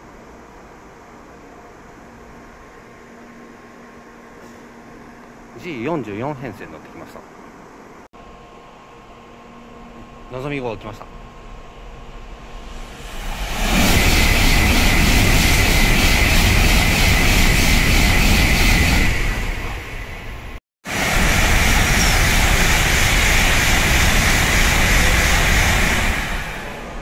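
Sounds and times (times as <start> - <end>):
high-speed train passing: 0.0 - 27.0.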